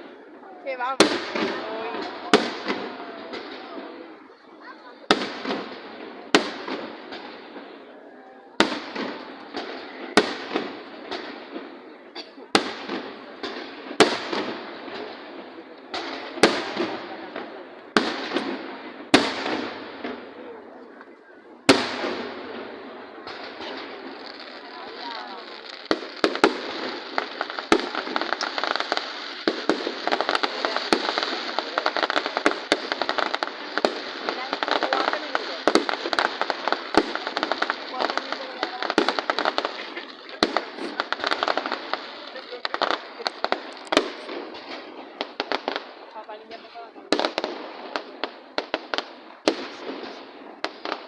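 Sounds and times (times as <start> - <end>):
fireworks bangs: 0.0 - 51.0
fireworks pops and crackling: 0.0 - 51.0.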